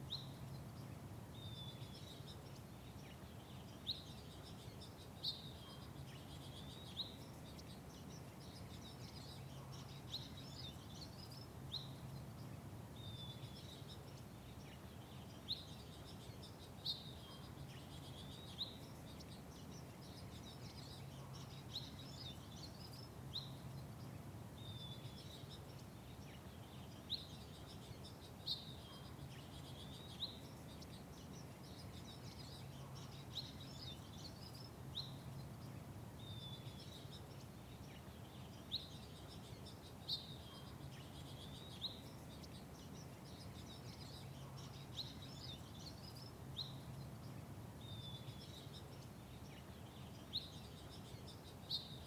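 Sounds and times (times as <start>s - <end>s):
songbirds chirping: 0.0s - 52.0s.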